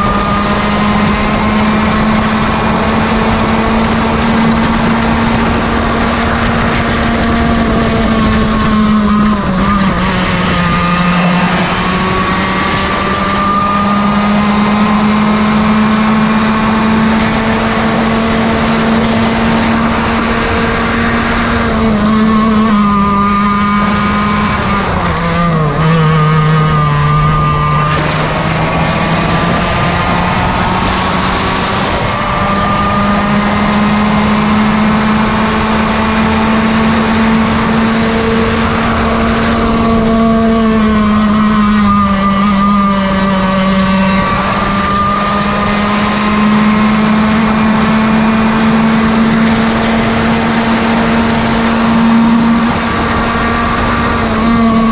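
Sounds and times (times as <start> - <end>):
kart engine at high revs: 0.0 - 54.9
other engines: 0.0 - 54.9.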